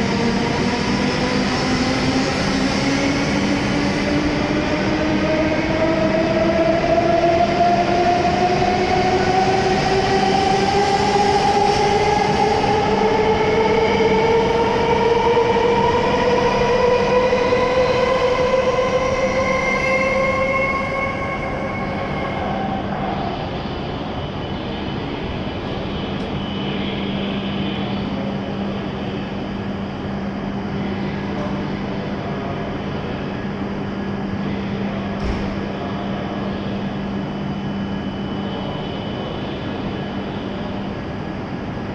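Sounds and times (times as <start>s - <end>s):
train running noise: 0.0s - 41.9s.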